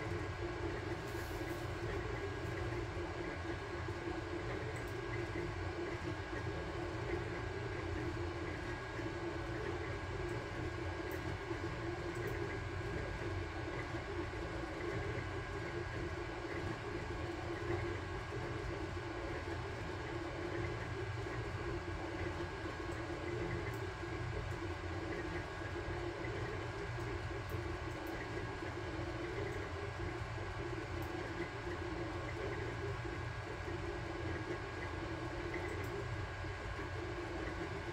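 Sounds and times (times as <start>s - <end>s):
printer fans and motors whirring: 0.0s - 37.9s.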